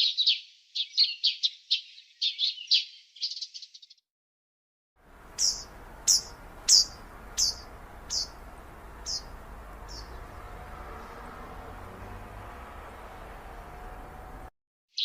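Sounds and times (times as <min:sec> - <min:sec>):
small bird chirping: 0:00.0 - 0:04.0, 0:05.2 - 0:15.0.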